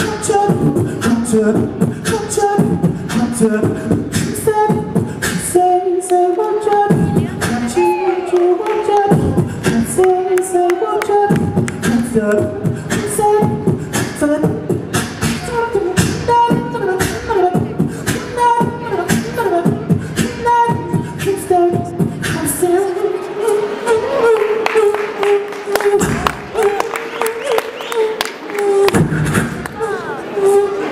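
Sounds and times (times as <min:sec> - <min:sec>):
beatboxing into a microphone: 0:00.0 - 0:30.9.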